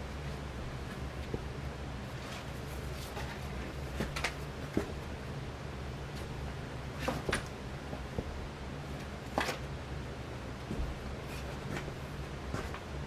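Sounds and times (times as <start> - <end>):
ceiling fan motor humming: 0.0 - 13.0.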